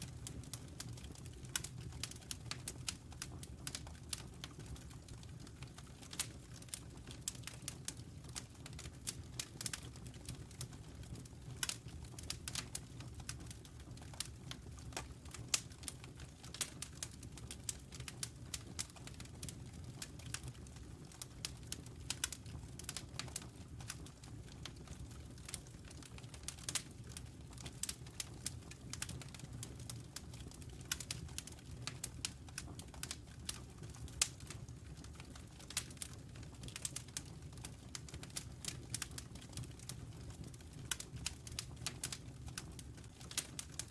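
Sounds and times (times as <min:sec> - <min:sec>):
logs crackling and popping: 0:00.0 - 0:43.9
low rumble of flames: 0:00.0 - 0:43.9.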